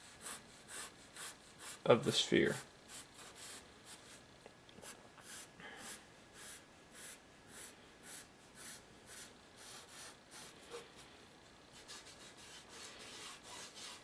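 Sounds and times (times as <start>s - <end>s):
charcoal pencil scratching on paper: 0.0s - 4.2s, 4.8s - 11.0s, 11.7s - 14.0s.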